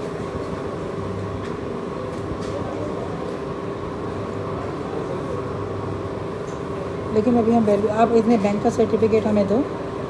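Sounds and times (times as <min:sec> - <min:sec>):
cooling fans humming: 0:00.0 - 0:10.0.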